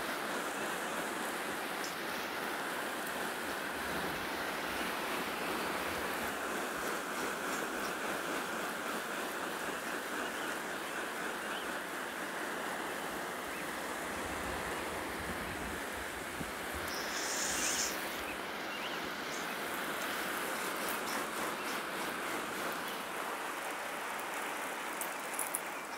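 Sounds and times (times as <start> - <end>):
water spray hissing on plants: 0.0 - 25.9.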